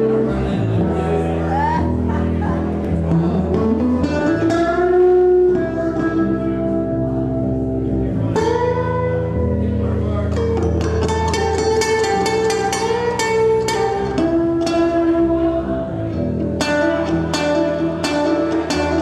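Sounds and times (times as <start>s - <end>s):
guitar sliding notes: 0.0s - 19.0s.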